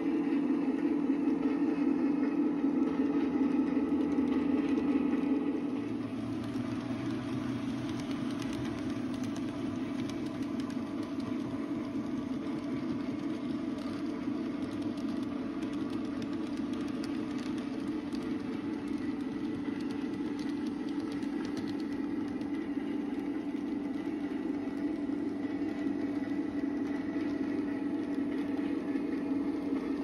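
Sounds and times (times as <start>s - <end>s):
model train running: 0.0s - 30.0s
wheels clicking on rails: 0.0s - 30.0s.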